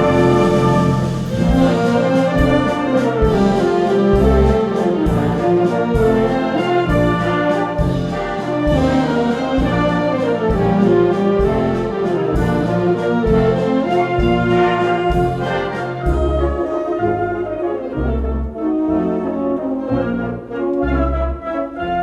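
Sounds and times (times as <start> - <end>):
wind band with brass melody: 0.0 - 22.0.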